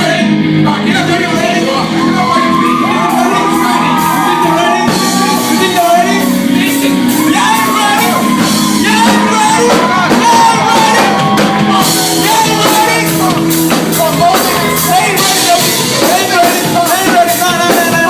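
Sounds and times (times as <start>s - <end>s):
live worship band with singing: 0.0s - 18.0s
crowd shouting and whooping: 1.1s - 18.0s.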